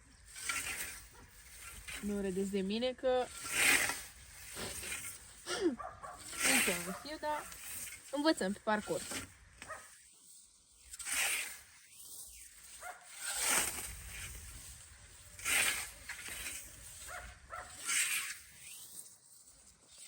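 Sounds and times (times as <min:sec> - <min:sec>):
scythe swishing through grass: 0:00.2 - 0:20.0.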